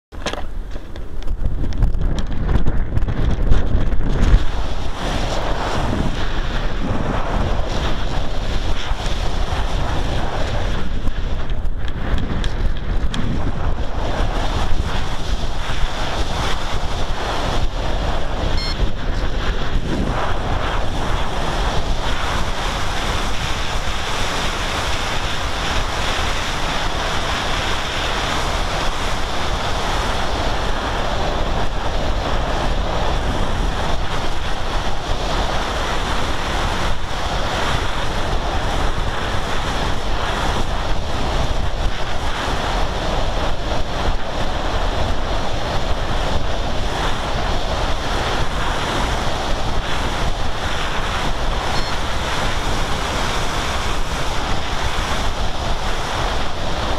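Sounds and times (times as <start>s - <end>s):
wind buffeting microphone: 0.1s - 56.9s.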